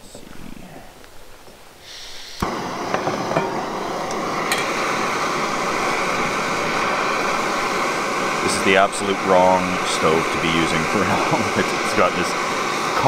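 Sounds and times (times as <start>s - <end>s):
gas stove flame hissing: 0.9s - 13.0s.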